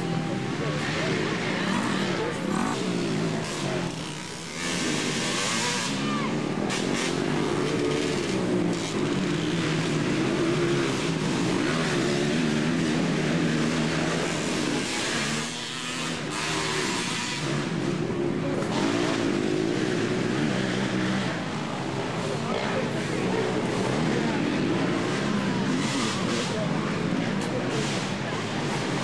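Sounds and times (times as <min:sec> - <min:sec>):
motocross engines revving: 0:00.0 - 0:29.0.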